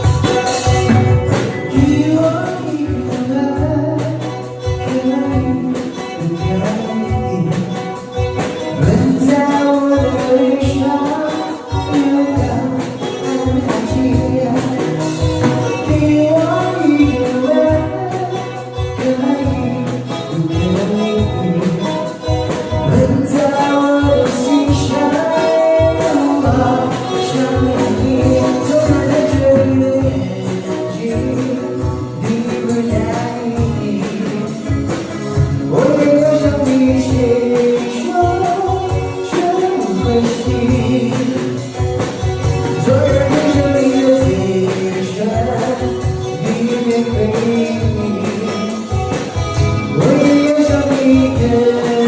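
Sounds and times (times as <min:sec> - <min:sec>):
song with melodic lead line: 0:00.0 - 0:52.0.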